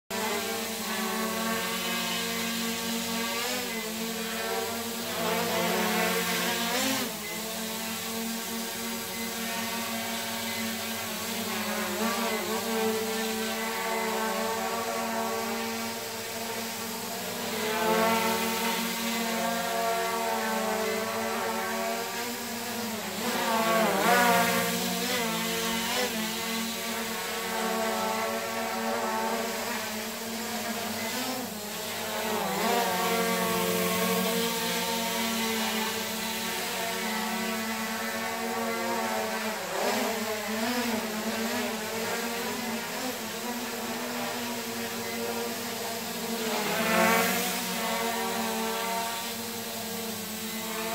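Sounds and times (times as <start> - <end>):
drone propellers buzzing: 0.1 - 50.9.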